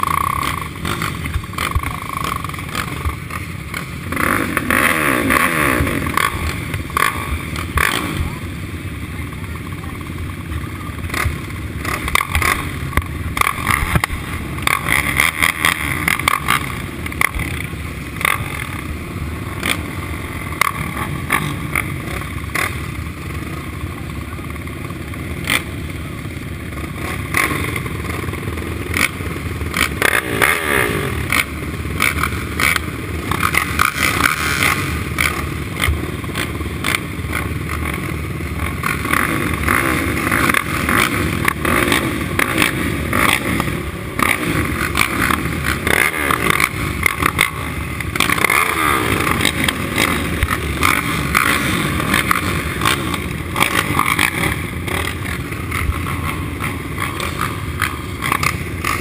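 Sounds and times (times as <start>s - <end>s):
quad engines idling: 0.0s - 59.0s.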